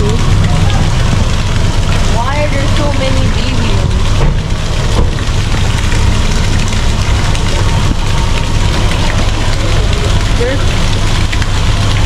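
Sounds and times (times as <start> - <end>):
fountain jets splashing: 0.0 - 12.0
low rumble: 0.0 - 12.0.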